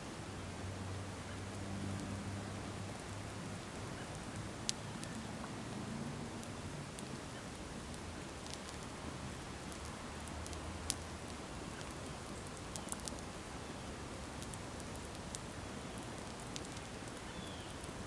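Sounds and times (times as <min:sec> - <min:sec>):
fire crackling and popping: 0:01.3 - 0:18.0.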